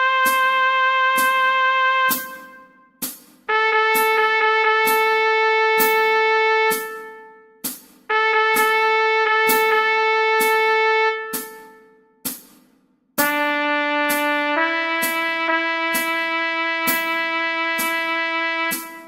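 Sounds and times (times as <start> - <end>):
trumpet long held notes: 0.0 - 2.8, 3.5 - 7.5, 8.1 - 12.0, 13.2 - 19.0
steady percussive click: 0.1 - 19.0.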